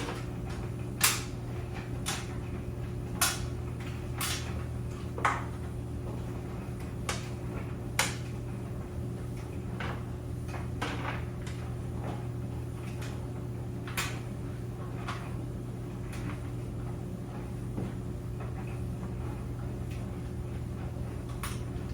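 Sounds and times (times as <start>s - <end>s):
clothes dryer humming: 0.0s - 21.9s.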